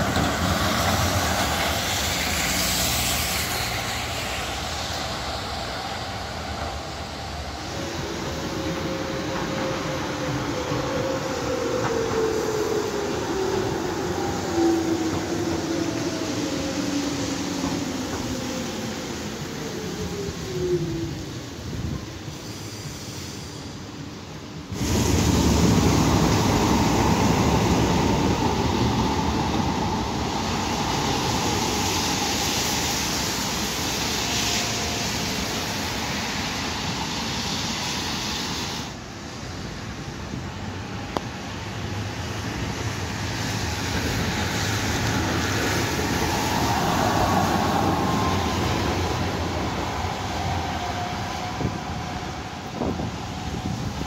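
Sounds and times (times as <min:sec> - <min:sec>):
tyres hissing through water: 0:00.0 - 0:11.8, 0:12.4 - 0:40.0, 0:42.2 - 0:54.0.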